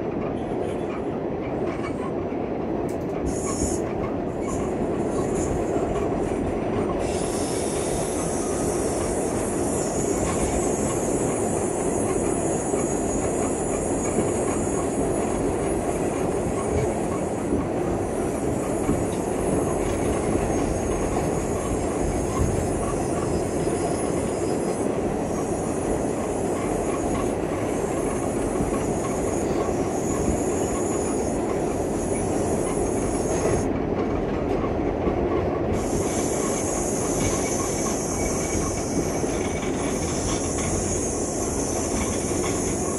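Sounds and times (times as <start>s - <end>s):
subway wheels rumbling on rail: 0.0s - 42.9s.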